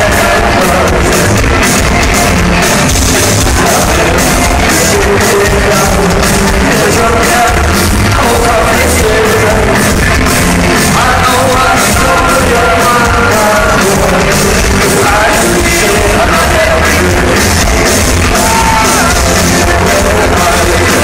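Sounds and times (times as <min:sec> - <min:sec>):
fast drumbeat: 0:00.0 - 0:21.0
person singing: 0:00.0 - 0:21.0
rock band playing live: 0:00.0 - 0:21.0.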